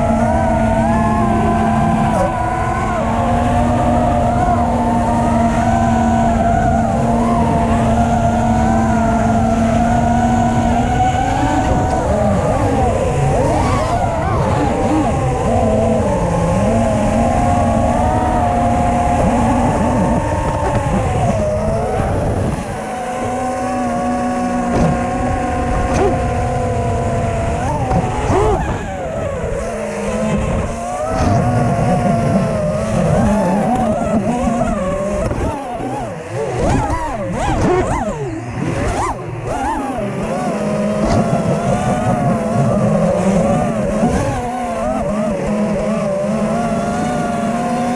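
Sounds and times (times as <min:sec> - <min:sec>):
drone motors whining: 0:00.0 - 0:47.9.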